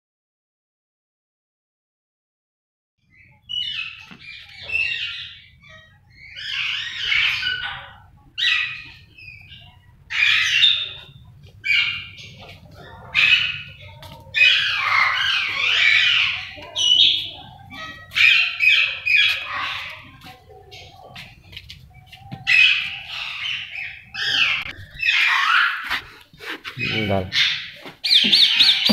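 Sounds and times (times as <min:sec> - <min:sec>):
birds squawking and chirping: 0:03.0 - 0:28.9.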